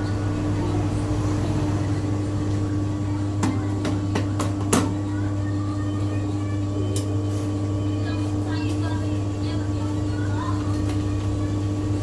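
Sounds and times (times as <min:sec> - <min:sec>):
dough mixer motor humming: 0:00.0 - 0:12.0.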